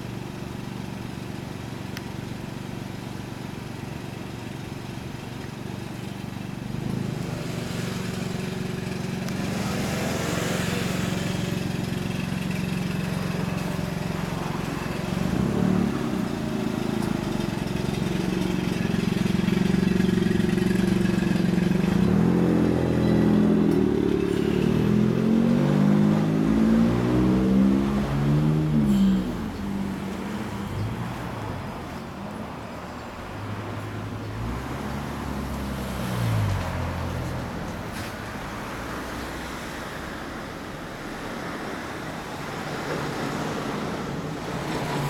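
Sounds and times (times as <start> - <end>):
scooter engine idling and revving: 0.0 - 45.0.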